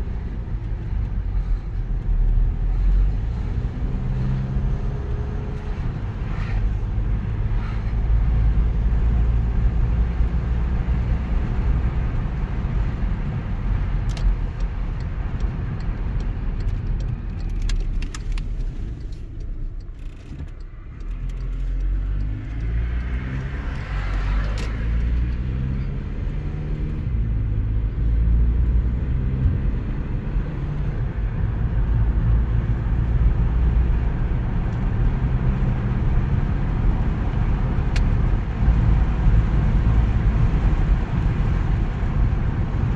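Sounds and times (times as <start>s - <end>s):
car engine and tyre hum: 0.0s - 42.9s.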